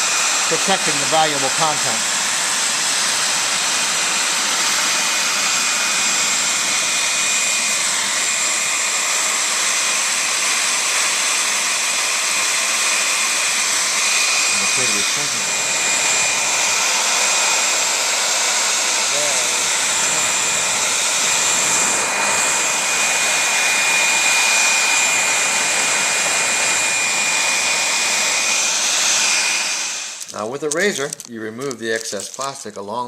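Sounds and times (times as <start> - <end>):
heat gun blowing: 0.0 - 32.8.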